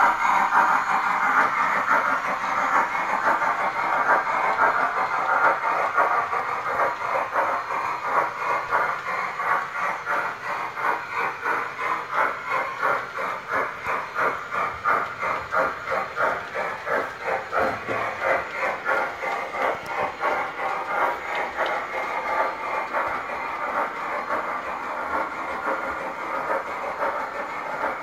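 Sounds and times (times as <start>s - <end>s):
model steam train chuffing: 0.0s - 28.0s
steady hiss: 0.0s - 28.0s.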